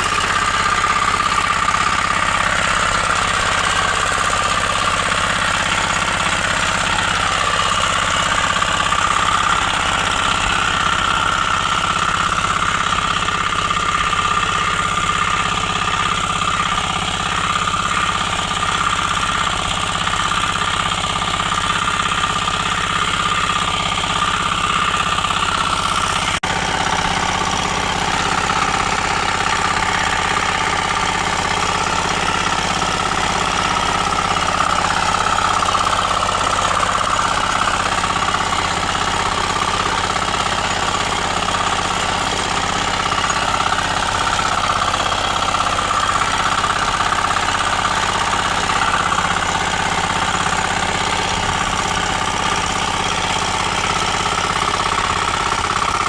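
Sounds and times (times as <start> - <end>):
small engine knocking steadily: 0.0 - 56.0.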